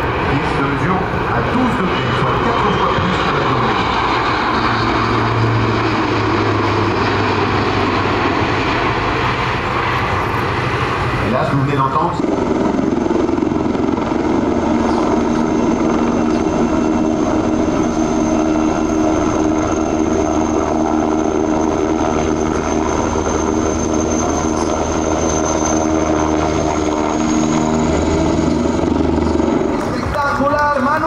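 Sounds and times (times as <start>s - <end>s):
helicopter flying past: 0.0s - 31.0s
high turbine whine: 0.0s - 31.0s.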